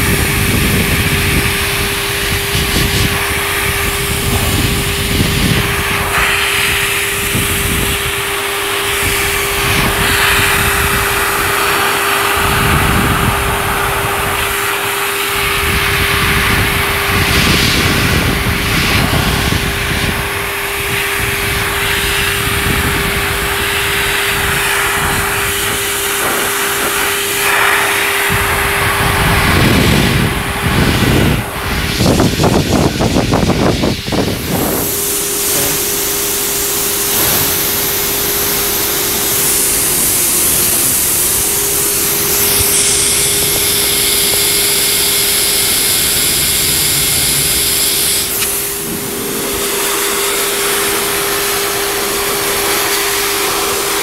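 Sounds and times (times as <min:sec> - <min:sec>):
pet dryer motor hum and rushing air: 0:00.0 - 0:54.0.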